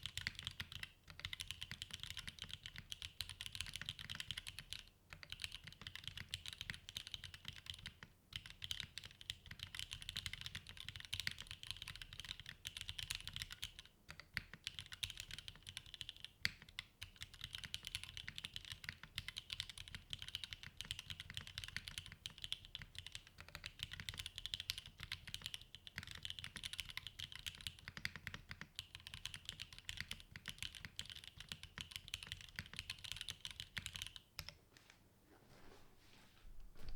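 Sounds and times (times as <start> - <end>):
mechanical keyboard typing: 0.0 - 34.6.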